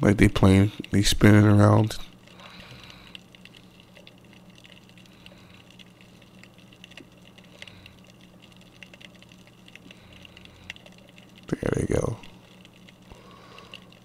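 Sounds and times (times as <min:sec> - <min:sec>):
steady low hum: 0:00.0 - 0:14.0
underwater clicks and crackle: 0:00.0 - 0:14.0.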